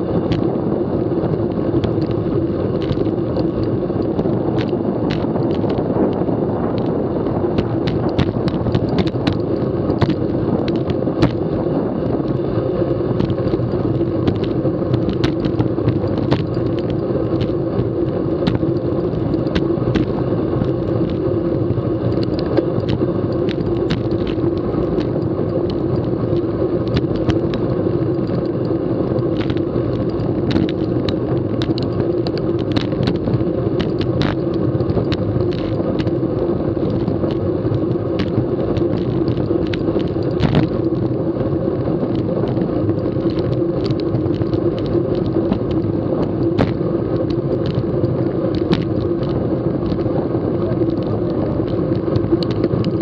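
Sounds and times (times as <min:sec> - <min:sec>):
bicycle clicks and rattles: 0:00.0 - 0:53.0
tyres humming on asphalt: 0:00.0 - 0:53.0
wind: 0:00.0 - 0:53.0.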